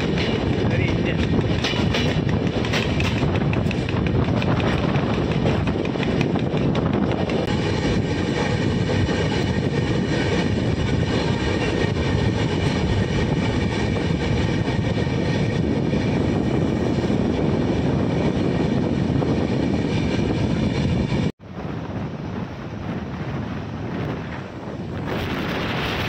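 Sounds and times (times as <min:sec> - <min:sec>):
rushing air: 0:00.0 - 0:26.0
train wheels rumbling on rails: 0:00.0 - 0:26.0.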